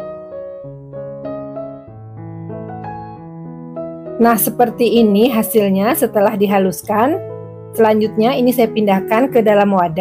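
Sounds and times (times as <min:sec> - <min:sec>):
gentle piano tune: 0:00.0 - 0:10.0.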